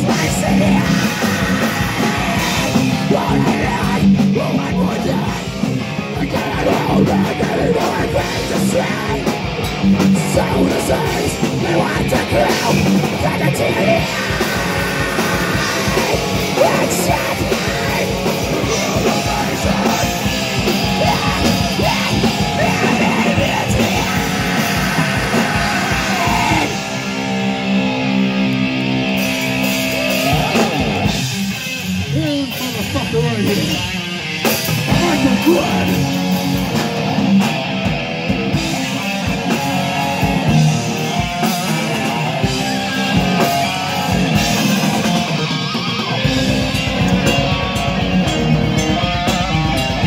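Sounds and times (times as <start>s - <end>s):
heavy rock band playing: 0.0s - 50.0s
yelled vocals: 0.0s - 50.0s.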